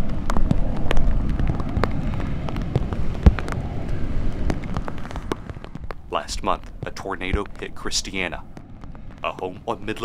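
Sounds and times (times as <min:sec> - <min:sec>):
raindrops ticking: 0:00.0 - 0:10.0
wind rumbling: 0:00.0 - 0:10.0.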